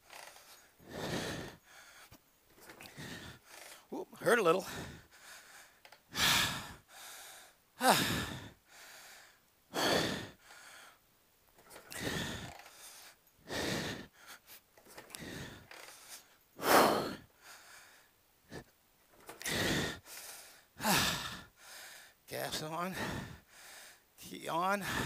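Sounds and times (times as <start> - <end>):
person breathing hard: 0.0 - 3.9, 4.6 - 11.0, 11.6 - 22.2, 22.9 - 24.1, 24.8 - 25.0.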